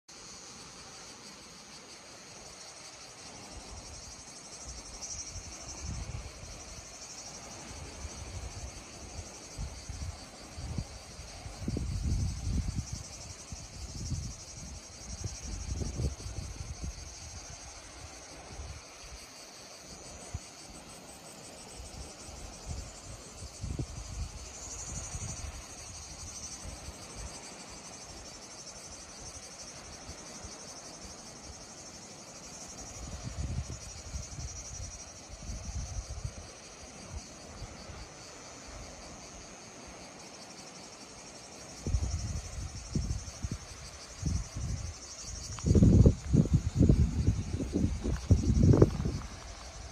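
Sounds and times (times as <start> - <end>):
insects chirring: 0.1 - 49.9.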